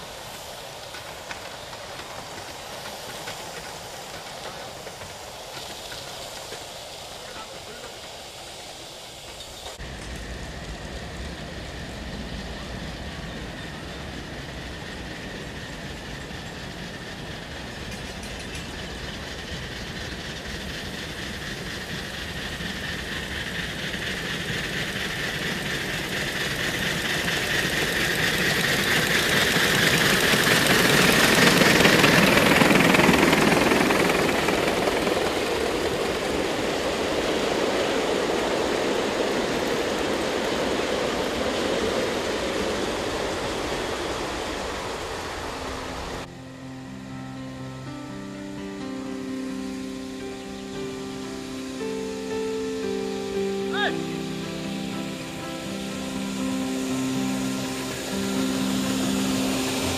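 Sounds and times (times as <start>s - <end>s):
model steam train running: 0.0s - 59.9s.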